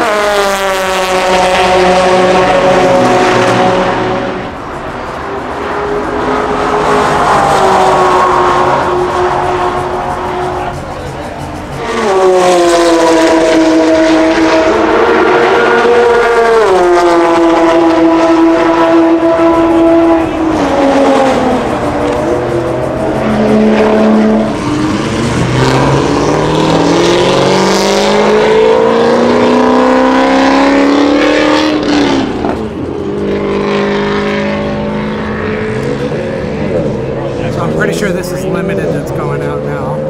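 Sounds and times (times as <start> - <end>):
race car engines revving: 0.0 - 40.0.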